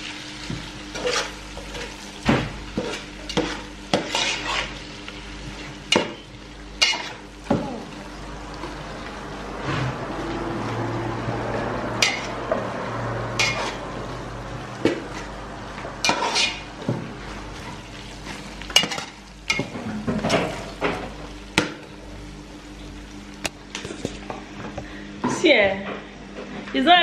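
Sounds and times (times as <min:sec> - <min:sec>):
fish sizzling in oil: 0:00.0 - 0:23.8.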